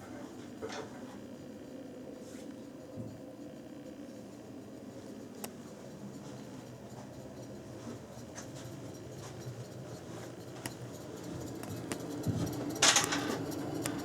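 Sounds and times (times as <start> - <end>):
fan unit humming: 0.0 - 14.0
faint ticking and rattling: 2.7 - 14.0.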